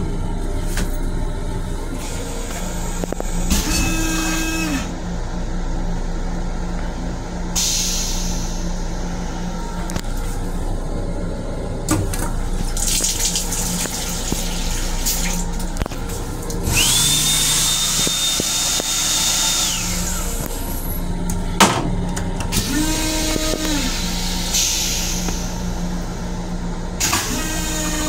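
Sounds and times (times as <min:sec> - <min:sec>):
toilet flushing with high whine: 0:00.0 - 0:28.0
train hum: 0:00.0 - 0:28.0.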